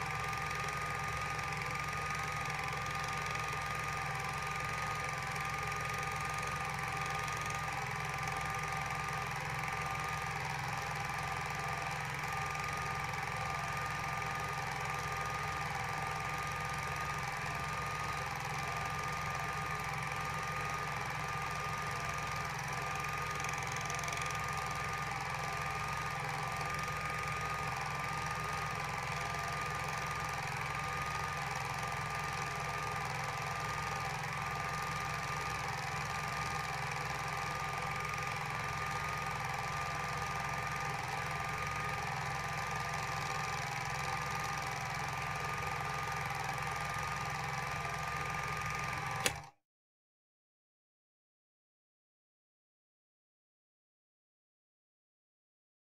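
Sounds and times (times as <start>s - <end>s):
film projector whirring: 0.0s - 49.6s.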